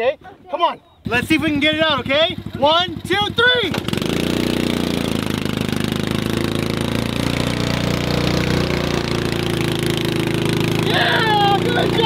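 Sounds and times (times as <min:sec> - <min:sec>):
small engine running under load: 0:01.1 - 0:12.0.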